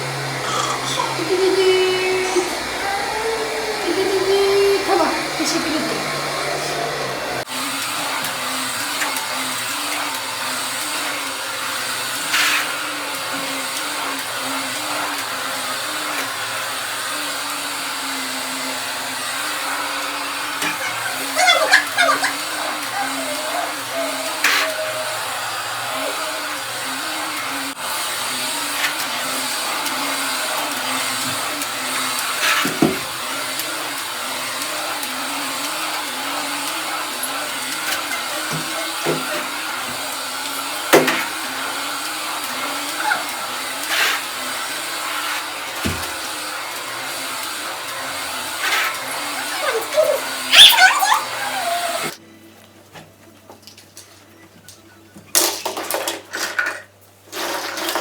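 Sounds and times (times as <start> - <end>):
vacuum cleaner running: 0.0 - 53.1, 55.4 - 58.0.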